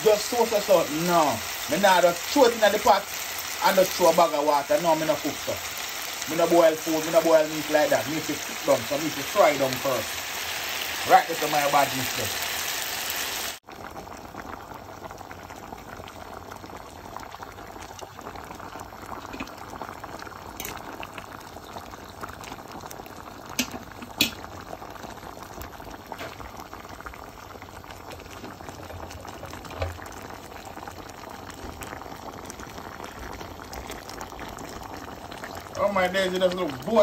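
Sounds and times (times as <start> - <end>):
stew bubbling in a pot: 0.0 - 37.0.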